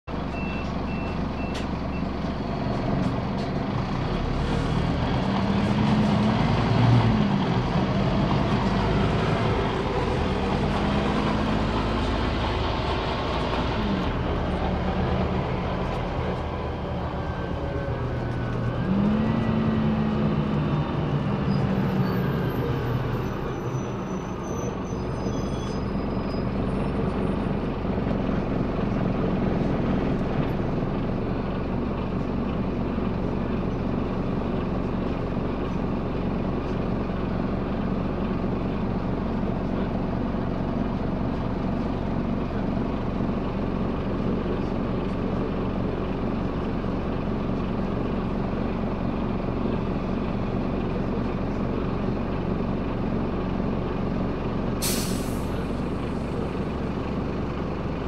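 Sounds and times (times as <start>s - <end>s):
bus diesel engine: 0.0s - 58.0s
bus running noise: 0.1s - 58.0s.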